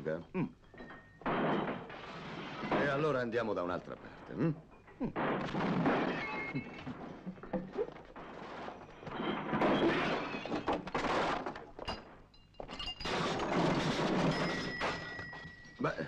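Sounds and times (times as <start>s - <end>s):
wooden furniture being smashed: 1.2s - 3.4s, 5.1s - 15.9s.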